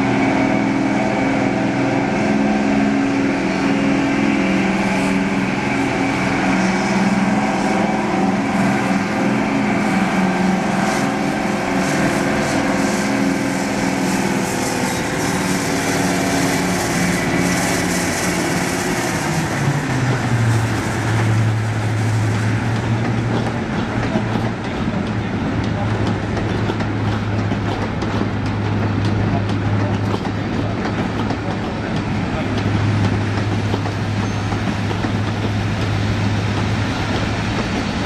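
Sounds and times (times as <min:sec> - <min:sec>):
diesel locomotive engine: 0:00.0 - 0:38.0.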